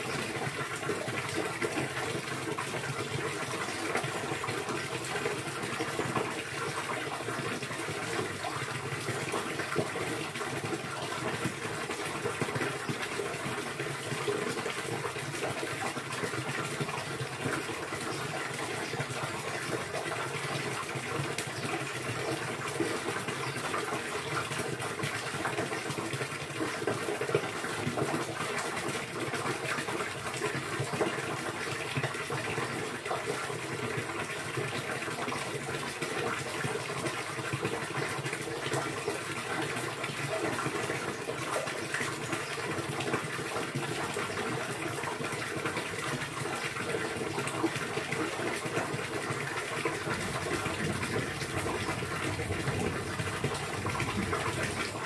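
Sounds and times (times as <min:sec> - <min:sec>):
running splashing water: 0:00.0 - 0:55.0.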